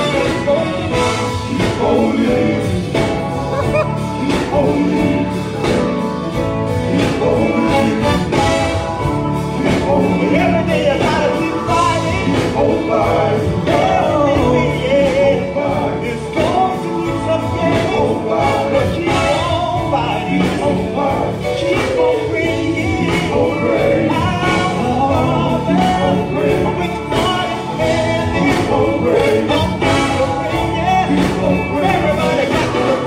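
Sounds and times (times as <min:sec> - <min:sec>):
gospel singers with band: 0:00.0 - 0:33.0.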